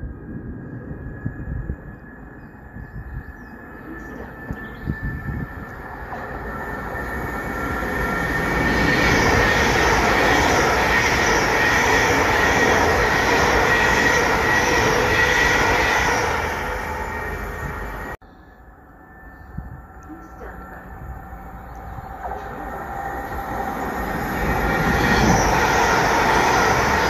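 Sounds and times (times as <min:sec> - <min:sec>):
electric train passing with whine: 0:00.0 - 0:27.0.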